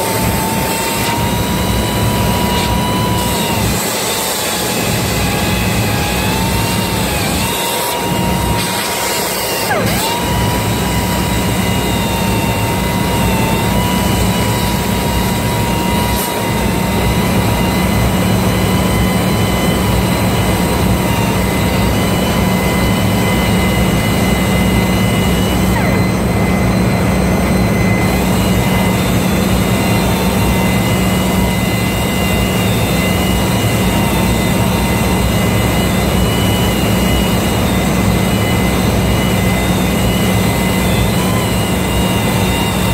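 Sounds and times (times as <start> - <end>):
machinery drone: 0.0 - 42.9
thin wavering whine: 0.0 - 42.9.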